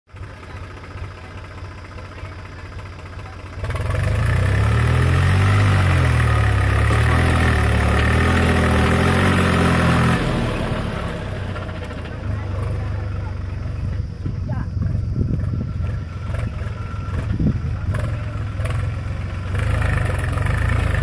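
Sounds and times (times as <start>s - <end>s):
tractor diesel engine revving: 0.1s - 21.0s.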